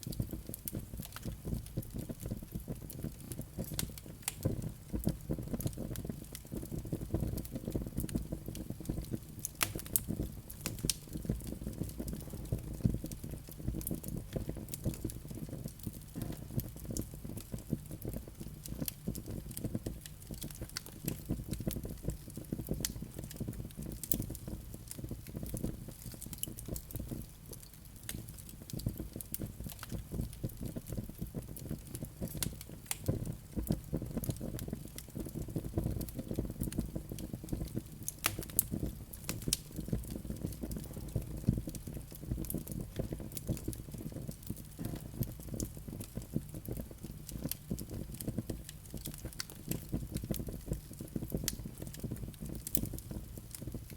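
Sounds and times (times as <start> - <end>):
low rumble of flames: 0.0 - 53.9
wood fire crackling and popping: 0.0 - 53.9.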